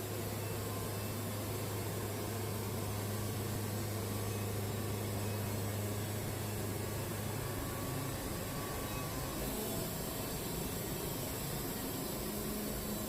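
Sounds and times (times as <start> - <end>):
bandsaw mill running: 0.0 - 13.0.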